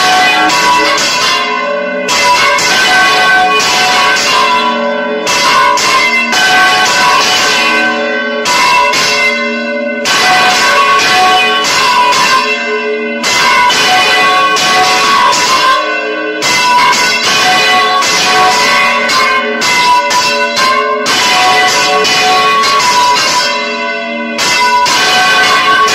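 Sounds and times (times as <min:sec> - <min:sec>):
church bells pealing: 0:00.0 - 0:25.9.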